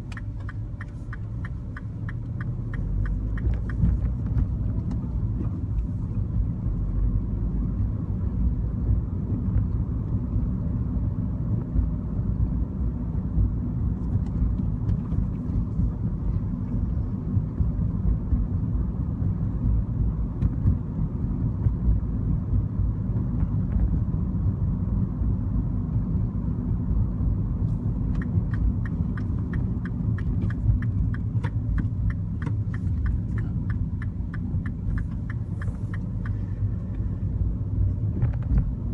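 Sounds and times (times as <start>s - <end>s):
car engine driving: 0.0s - 38.9s
road rumble: 0.0s - 38.9s.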